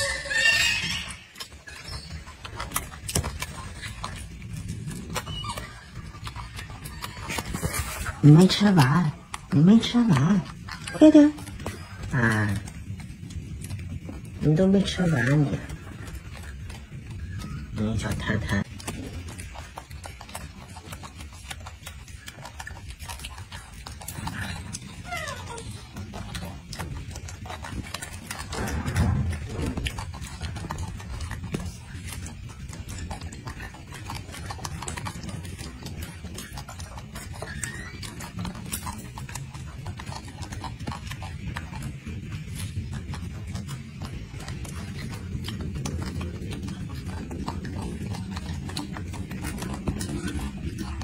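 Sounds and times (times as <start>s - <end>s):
monkey chewing wetly: 0.0s - 51.0s.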